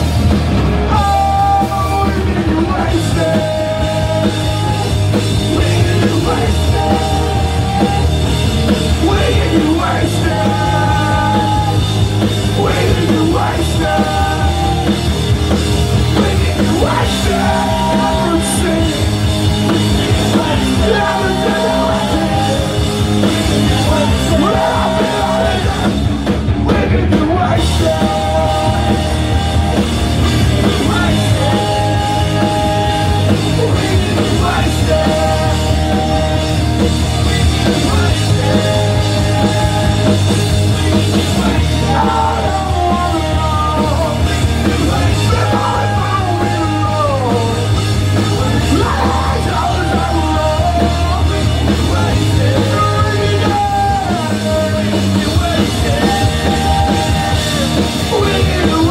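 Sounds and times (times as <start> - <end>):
loud sung and shouted vocals: 0.0 - 58.9
punk rock band playing live: 0.0 - 58.9.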